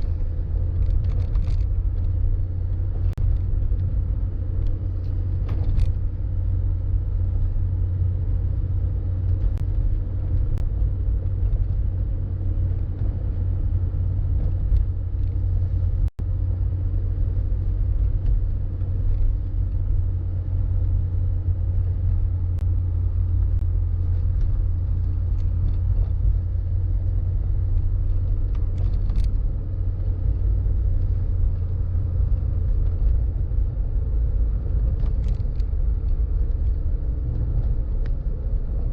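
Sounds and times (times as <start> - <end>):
car road and wind rumble: 0.0 - 38.9.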